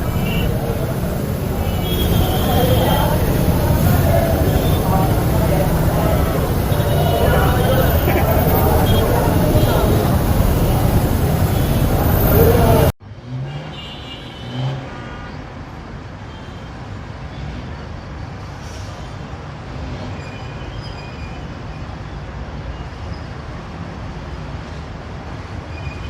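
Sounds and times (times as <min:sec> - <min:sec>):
road traffic rumble and hiss: 0:00.0 - 0:26.0.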